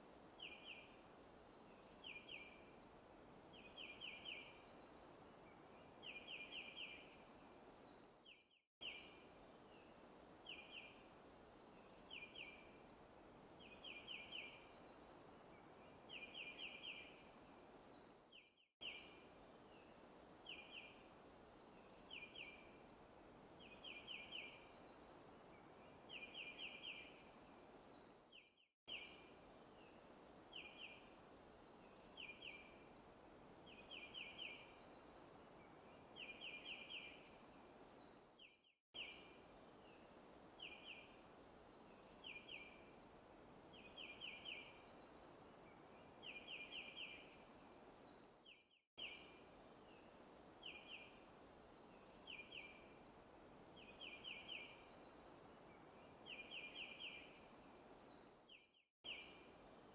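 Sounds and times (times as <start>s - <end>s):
steady forest hiss: 0.0s - 18.2s, 18.8s - 28.2s, 28.9s - 59.9s.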